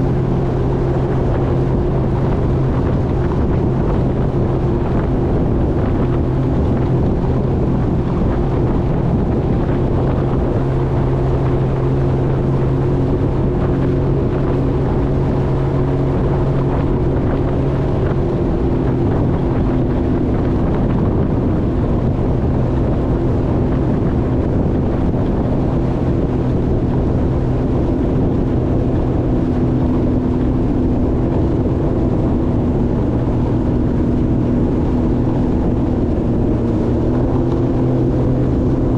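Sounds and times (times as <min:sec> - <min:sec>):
jet ski engine running: 0:00.0 - 0:38.9
wind buffeting microphone: 0:00.0 - 0:38.9.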